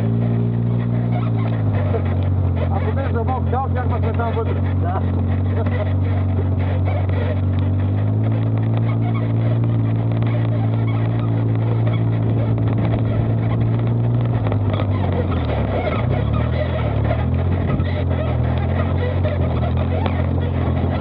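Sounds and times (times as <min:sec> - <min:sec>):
utility vehicle engine running: 0:00.0 - 0:21.0.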